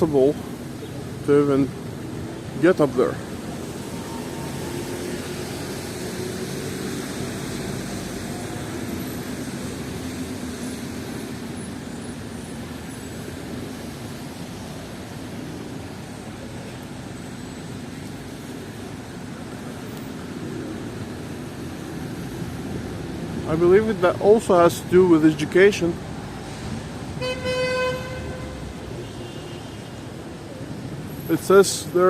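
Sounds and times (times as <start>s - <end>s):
hiss of passing vehicles: 0.0s - 32.0s.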